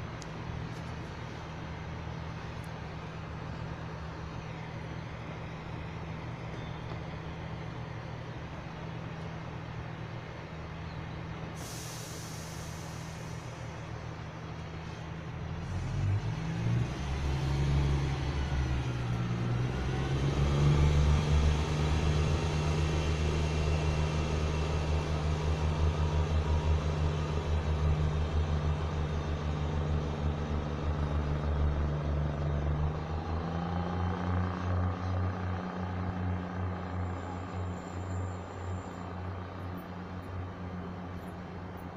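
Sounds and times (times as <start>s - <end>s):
train diesel engines droning: 0.0s - 41.9s.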